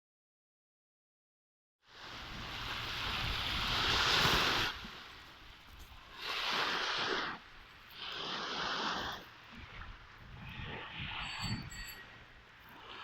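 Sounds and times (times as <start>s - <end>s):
sea waves washing on shore: 1.9s - 13.0s.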